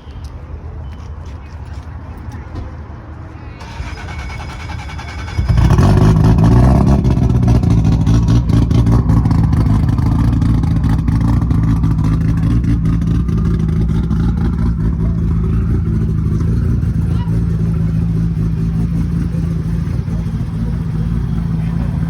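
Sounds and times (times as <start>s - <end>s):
car engine starting and idling: 3.6s - 22.0s.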